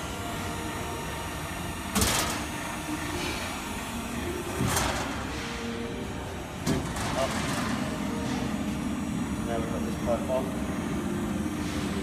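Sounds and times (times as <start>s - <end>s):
hydraulic machine humming: 0.0s - 12.0s.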